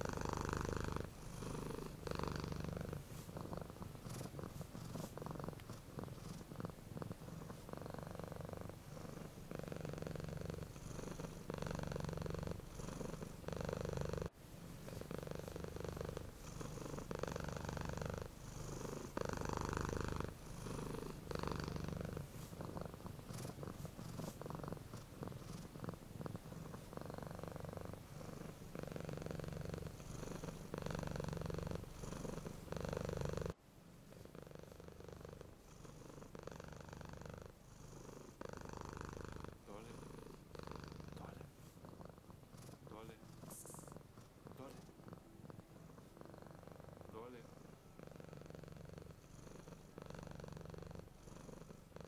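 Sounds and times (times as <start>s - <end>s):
cat purring: 0.0s - 52.0s.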